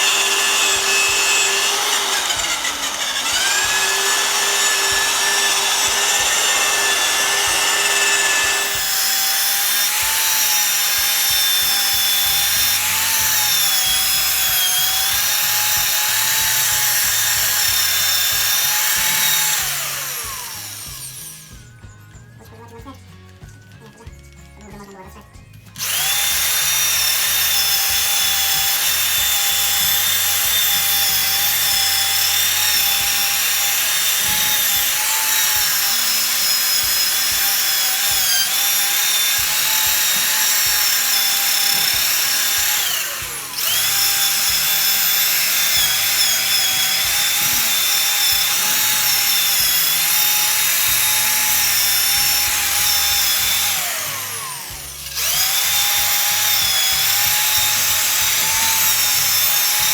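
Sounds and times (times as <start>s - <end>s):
electric drill with wire brush whining: 0.0s - 22.3s, 25.4s - 59.9s.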